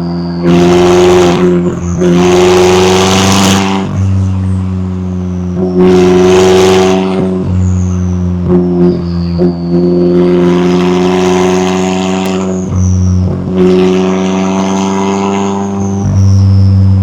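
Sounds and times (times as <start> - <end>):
car engine running steadily: 0.0 - 17.0
rushing surges of exhaust: 0.0 - 17.0.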